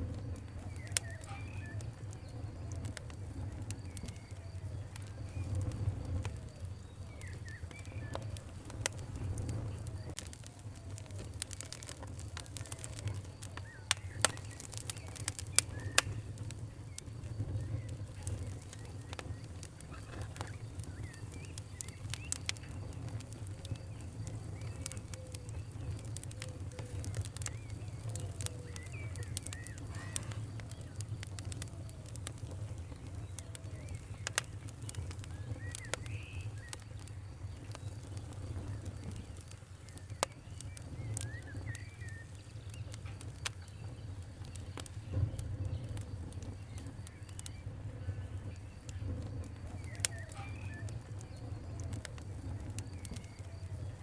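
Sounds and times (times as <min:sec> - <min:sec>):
low rumble of burning: 0:00.0 - 0:54.0
sharp pops from fire: 0:00.0 - 0:54.0
wood fire crackling: 0:00.0 - 0:54.0.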